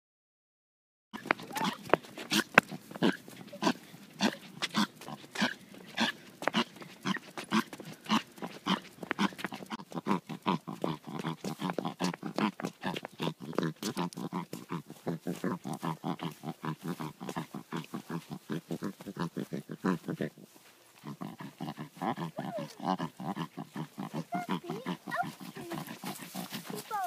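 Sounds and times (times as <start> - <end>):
dog making pig-like grunts: 1.2 - 20.3, 21.0 - 27.0.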